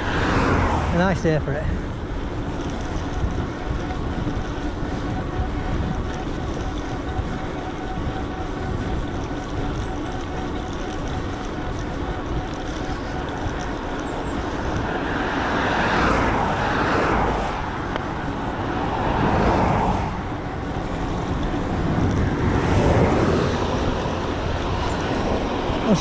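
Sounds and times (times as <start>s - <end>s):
vehicles passing: 0.0s - 26.0s
wind and road noise rumble: 0.0s - 26.0s.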